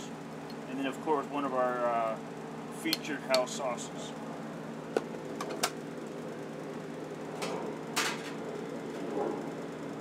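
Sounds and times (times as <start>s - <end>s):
kitchen equipment humming: 0.0s - 10.0s.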